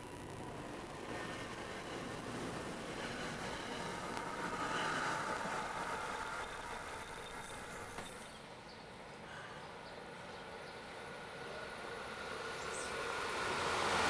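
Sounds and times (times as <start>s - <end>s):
train rolling on rails: 0.0s - 14.0s.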